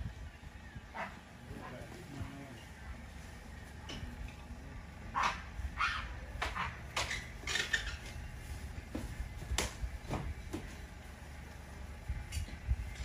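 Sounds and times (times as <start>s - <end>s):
monkeys on a metal roof: 0.0s - 13.0s.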